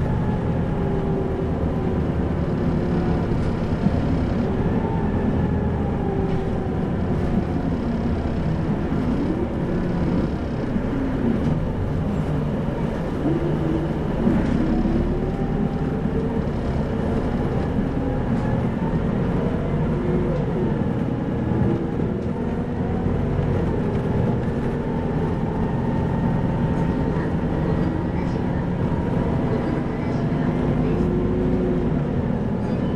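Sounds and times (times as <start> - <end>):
bus diesel engine running: 0.0 - 32.9
road rumble: 0.0 - 32.9.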